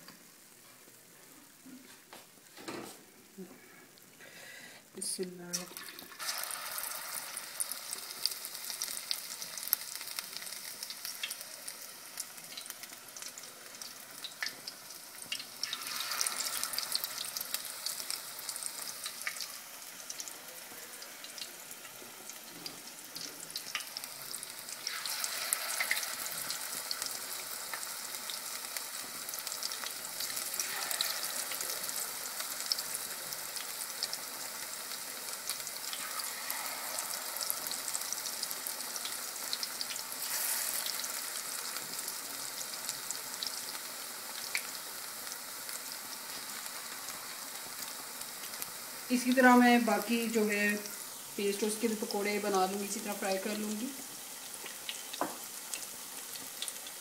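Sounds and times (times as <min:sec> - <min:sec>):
batter sizzling in hot oil: 0:05.0 - 0:57.0.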